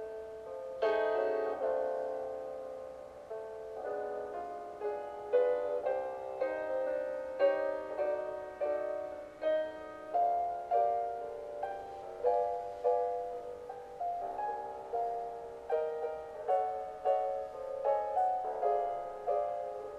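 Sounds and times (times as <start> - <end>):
slow gentle piano: 0.0 - 19.9.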